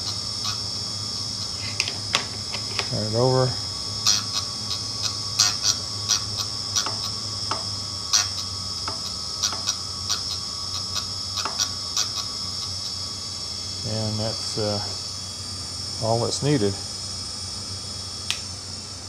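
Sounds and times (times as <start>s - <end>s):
drill bit ticking on grinding wheel: 0.0s - 16.8s
drill grinder motor whine: 0.0s - 19.0s.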